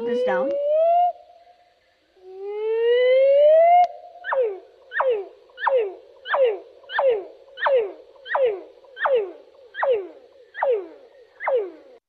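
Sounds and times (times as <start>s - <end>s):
slowed-down birdsong: 0.0s - 12.0s.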